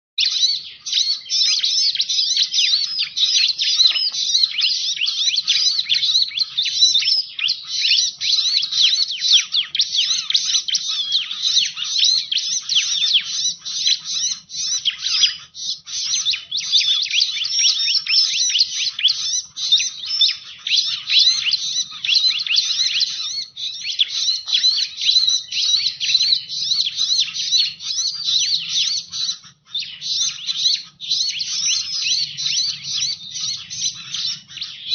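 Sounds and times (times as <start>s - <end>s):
bird chirps and trills: 0.2s - 34.9s.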